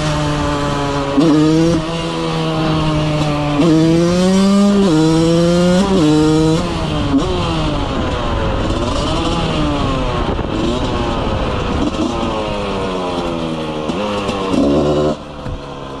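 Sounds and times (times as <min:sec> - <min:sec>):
motorcycle engine revving hard: 0:00.0 - 0:16.0.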